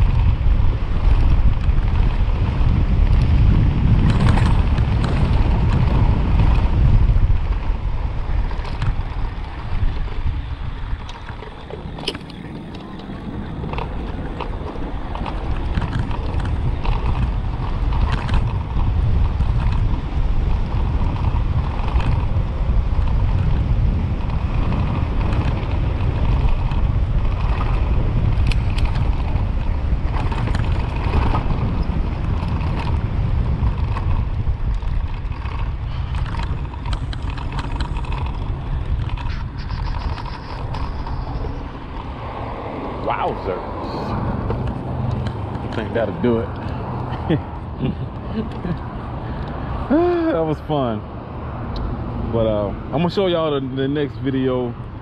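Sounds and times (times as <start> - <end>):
tyres rumbling on brick pavers: 0.0 - 50.9
wind rushing over microphone: 0.0 - 55.0.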